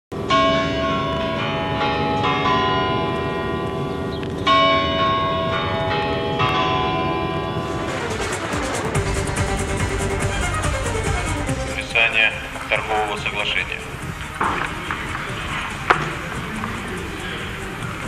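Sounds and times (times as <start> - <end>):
large bells ringing: 0.1 - 18.0.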